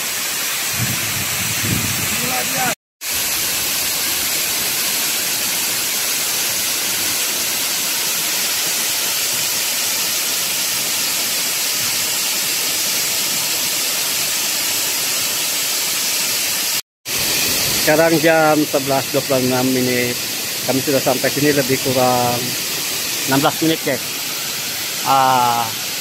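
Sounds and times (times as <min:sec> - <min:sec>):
waterfall rushing: 0:02.0 - 0:26.0.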